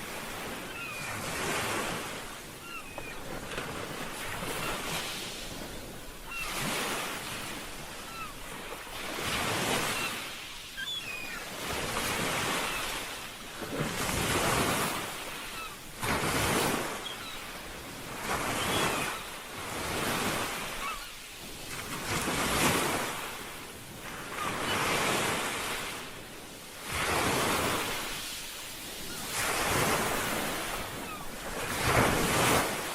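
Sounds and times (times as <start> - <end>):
ocean waves breaking: 0.0 - 32.9.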